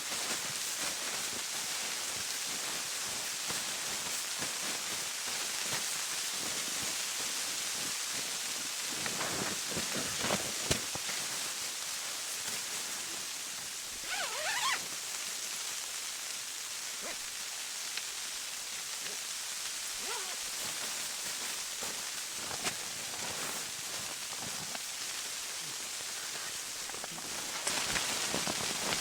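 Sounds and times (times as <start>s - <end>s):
snow pattering on tent fabric: 0.0s - 29.0s.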